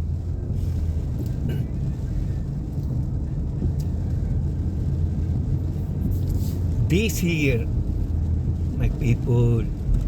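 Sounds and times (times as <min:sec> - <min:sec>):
car interior road rumble: 0:00.0 - 0:10.0.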